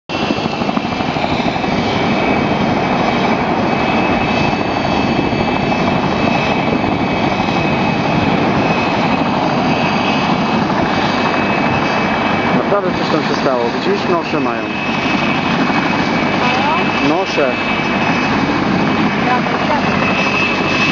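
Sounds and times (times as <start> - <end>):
helicopter rotor noise: 0.1 - 20.9
high engine whine: 0.1 - 20.9.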